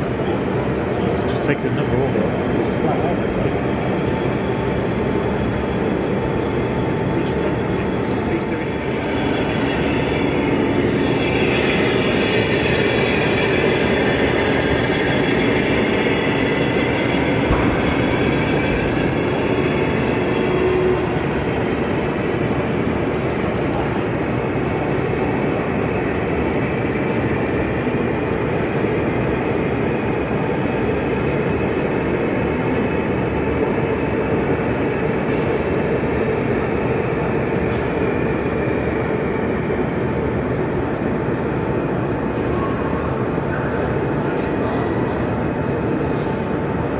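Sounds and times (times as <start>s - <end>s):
model train rumbling on track: 0.0s - 46.9s.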